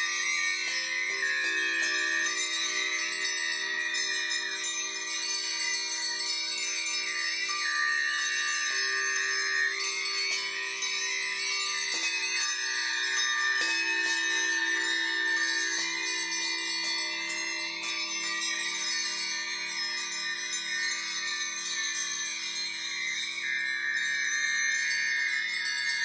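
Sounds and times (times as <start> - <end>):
brass hand bells ringing: 0.0 - 26.0
singing bowls humming: 0.0 - 26.0.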